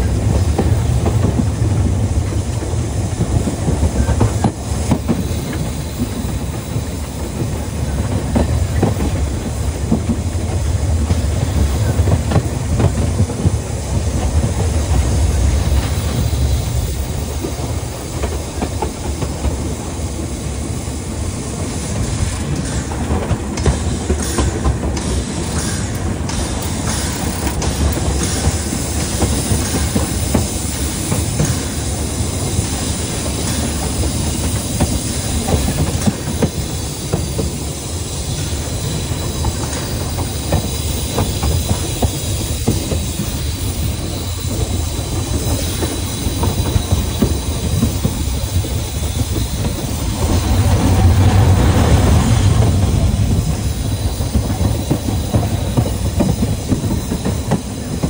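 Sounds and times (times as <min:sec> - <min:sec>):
steam train rumble and hiss: 0:00.0 - 0:58.0
train wheels clacking over rail joints: 0:00.0 - 0:58.0.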